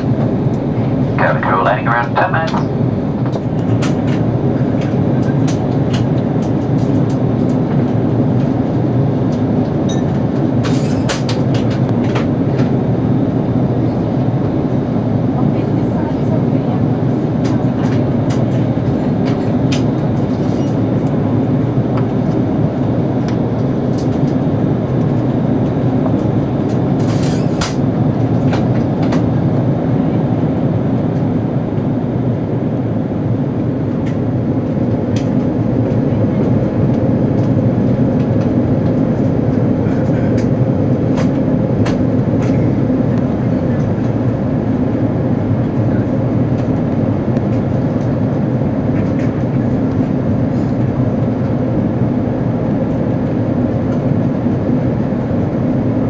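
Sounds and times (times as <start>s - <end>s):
airflow over fuselage: 0.0s - 56.0s
airplane engine rumble: 0.0s - 56.0s.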